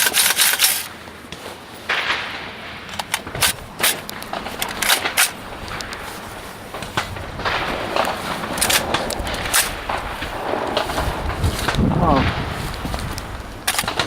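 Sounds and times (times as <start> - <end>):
sharp clicks and knocks: 0.0 - 14.0.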